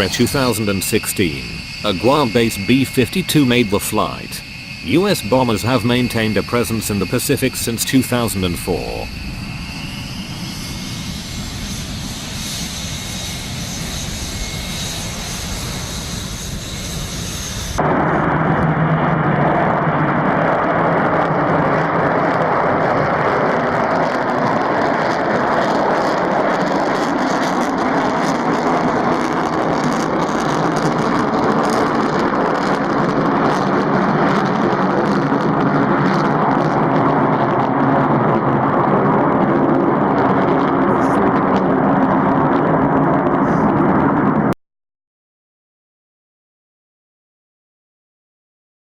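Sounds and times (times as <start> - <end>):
jet aircraft engine with faint whine: 0.0 - 44.5.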